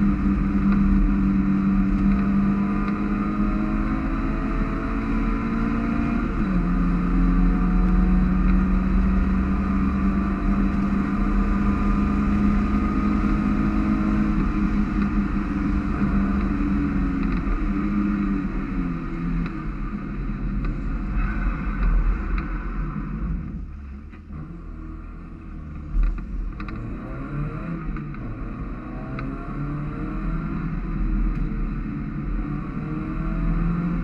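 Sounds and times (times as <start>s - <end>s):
steady low rumble: 0.0s - 5.5s, 6.1s - 34.0s
race car engine running hard: 0.0s - 34.0s.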